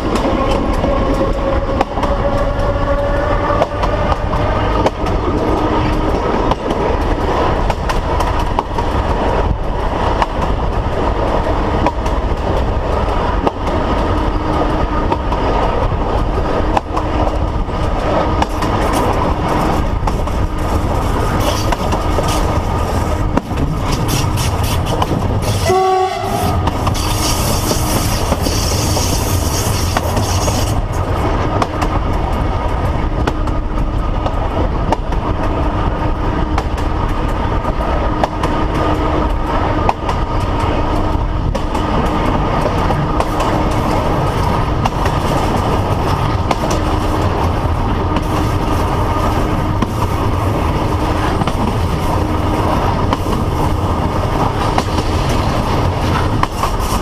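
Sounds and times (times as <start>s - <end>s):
wheels clicking over rail joints: 0.0s - 35.7s, 36.5s - 57.0s
train rumbling along track: 0.0s - 57.0s.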